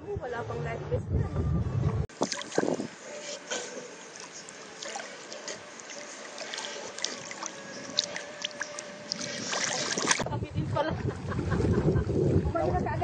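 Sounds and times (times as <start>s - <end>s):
faint steady hum: 0.1s - 11.3s
water lapping around a boat: 2.0s - 13.0s.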